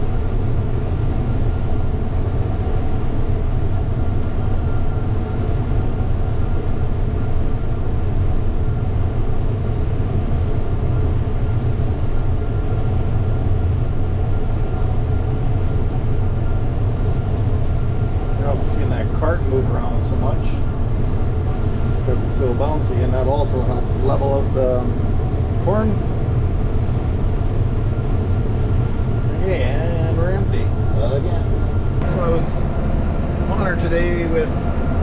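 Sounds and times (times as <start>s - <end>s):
combine harvester drone: 0.0s - 35.0s
faint steady whine: 0.0s - 35.0s.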